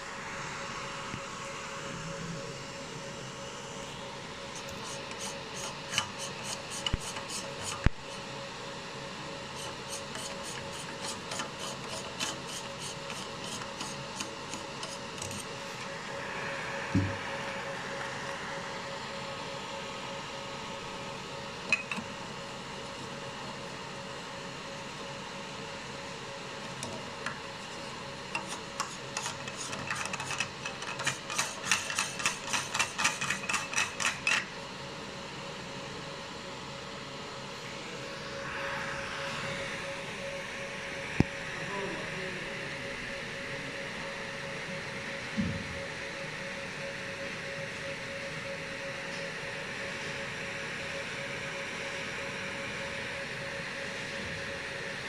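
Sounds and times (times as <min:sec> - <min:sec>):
faint hum: 0:00.0 - 0:55.0.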